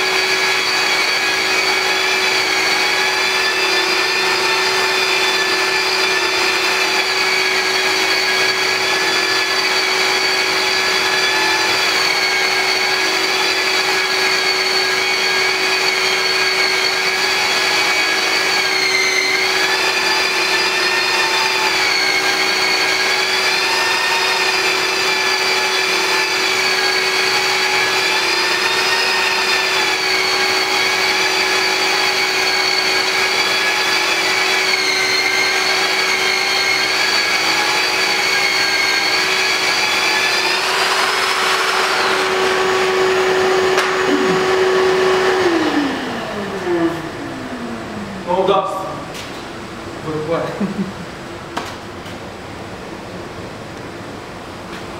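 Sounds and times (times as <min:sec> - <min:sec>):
drywall sander motor whine: 0:00.0 - 0:49.1.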